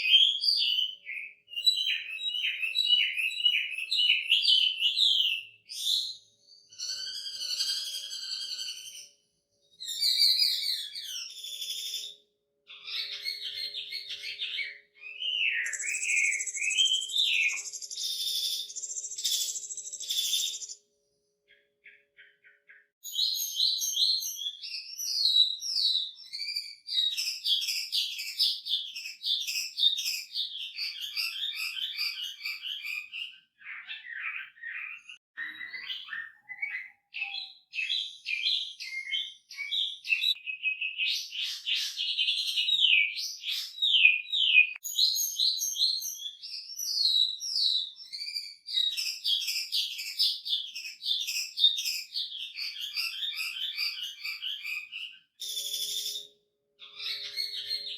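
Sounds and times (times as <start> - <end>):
bird singing trills: 0.0 - 57.9.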